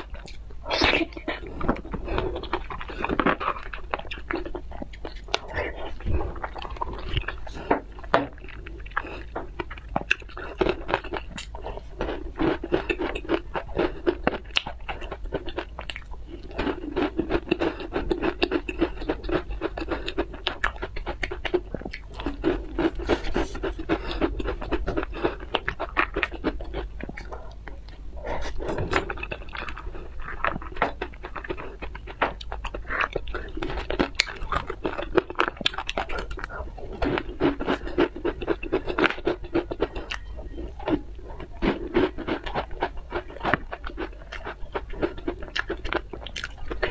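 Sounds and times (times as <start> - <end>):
chewing candy: 0.0 - 46.9.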